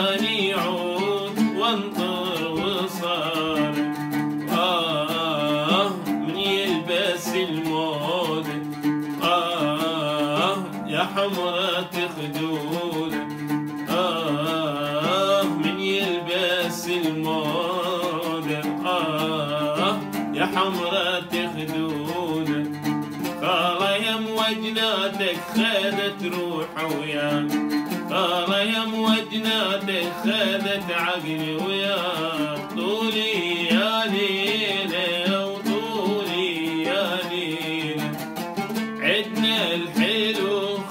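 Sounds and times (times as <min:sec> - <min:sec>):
man singing folk melody: 0:00.0 - 0:40.9
oud plucked notes: 0:00.0 - 0:40.9.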